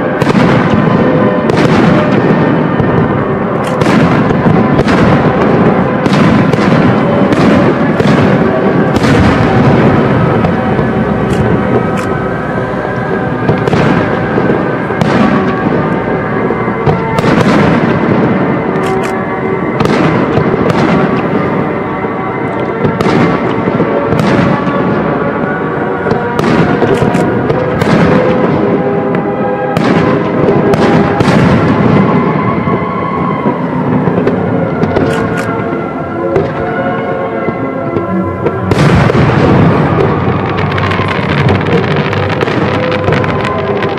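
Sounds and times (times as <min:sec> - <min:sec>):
fireworks bursting: 0:00.0 - 0:36.8, 0:37.4 - 0:43.9
music with held notes: 0:00.0 - 0:43.9.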